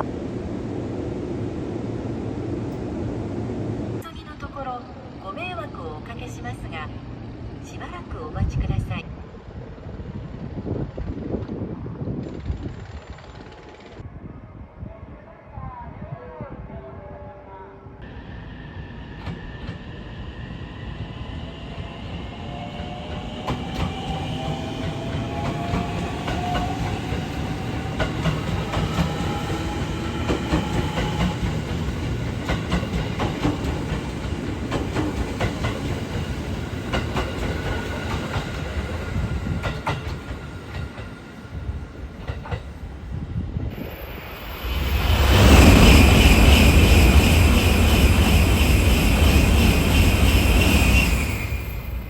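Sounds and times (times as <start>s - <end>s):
loud rushing train noise: 0.0s - 14.8s, 18.0s - 52.0s.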